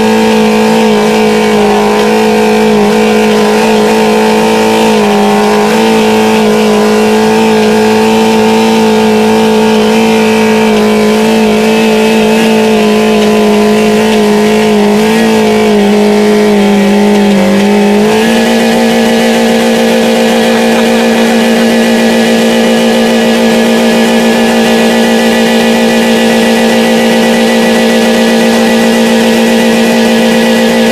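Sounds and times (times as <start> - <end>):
car engine at high revs: 0.0 - 30.9.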